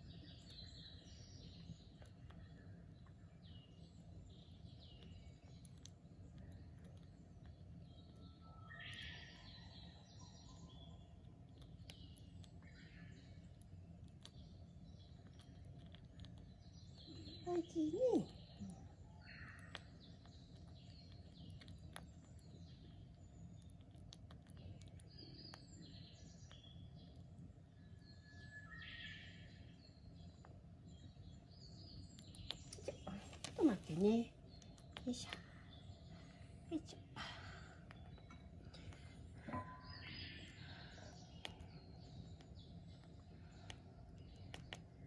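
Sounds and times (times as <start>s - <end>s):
bird chicks chirping: 0.0s - 45.0s.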